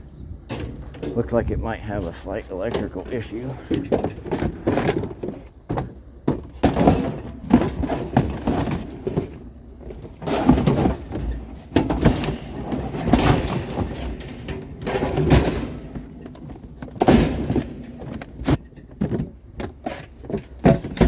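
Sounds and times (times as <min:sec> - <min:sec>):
scrap metal clanking and thumping: 0:00.4 - 0:21.0.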